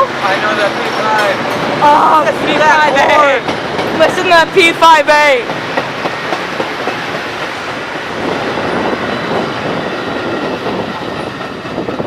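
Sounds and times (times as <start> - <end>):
train passing at speed: 0.0 - 12.0
wheels clickety-clack on rails: 0.0 - 12.0.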